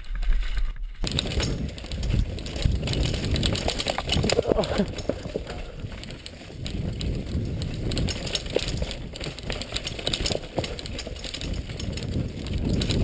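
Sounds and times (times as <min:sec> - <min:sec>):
bike clattering and rattling: 0:00.4 - 0:13.0
wind rumble on camera: 0:00.9 - 0:13.0.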